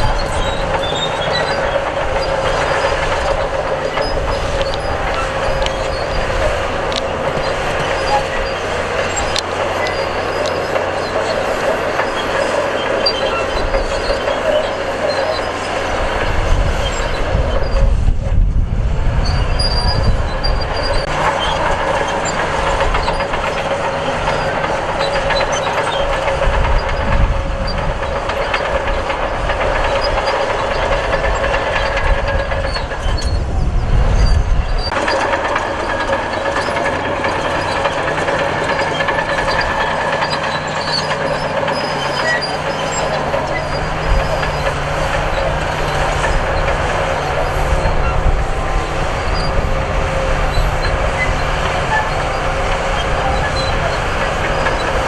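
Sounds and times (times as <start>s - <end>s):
bulldozer diesel engine running: 0.0s - 55.0s
clanking steel tracks: 0.0s - 55.0s.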